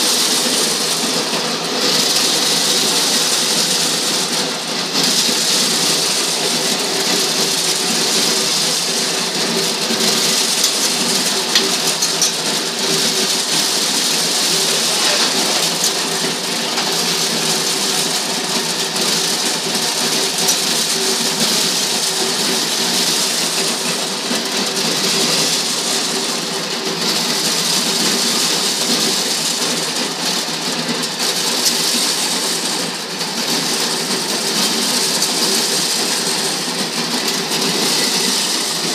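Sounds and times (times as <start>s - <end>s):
corn rattling through sheller: 0.0s - 38.9s.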